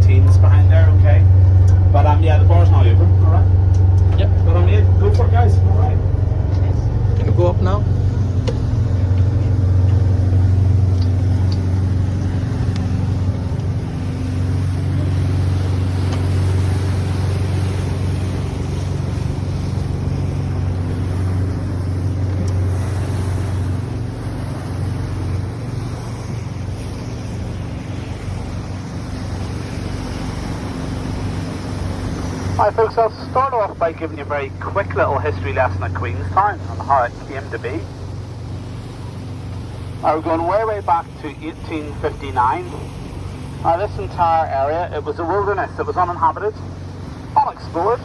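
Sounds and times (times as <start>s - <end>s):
boat engine droning: 0.0s - 48.0s
wash of noise: 0.0s - 48.0s.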